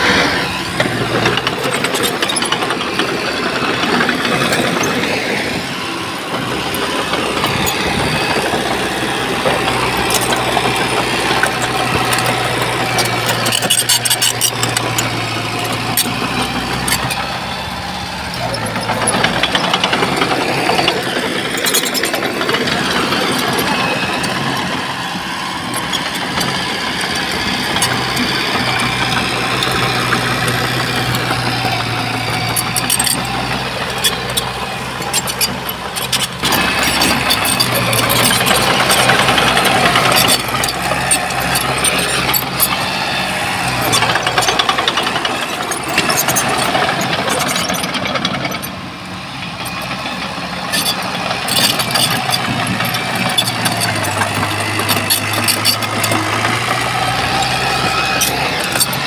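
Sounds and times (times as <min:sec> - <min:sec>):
heavy machinery diesel engine: 0:00.0 - 0:59.0
metallic clanks and rattles: 0:06.3 - 0:17.4, 0:18.3 - 0:42.9, 0:43.6 - 0:48.7, 0:49.6 - 0:59.0.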